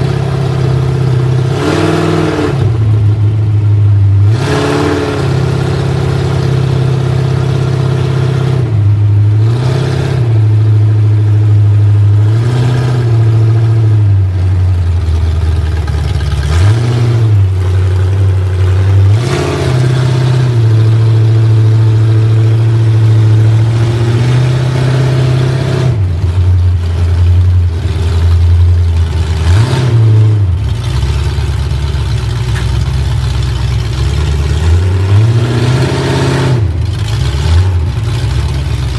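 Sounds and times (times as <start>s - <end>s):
car engine running hard: 0.0s - 38.9s.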